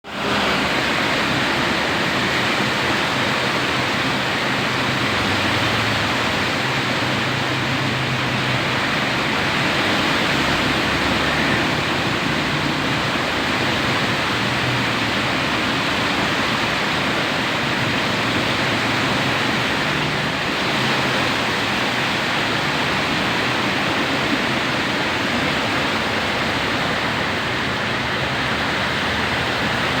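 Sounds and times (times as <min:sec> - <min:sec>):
heavy rain in strong wind: 0:00.0 - 0:30.0.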